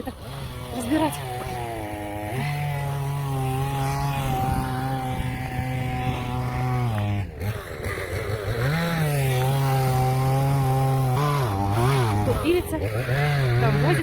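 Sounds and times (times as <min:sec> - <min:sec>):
chainsaw engine running: 0:00.0 - 0:14.0.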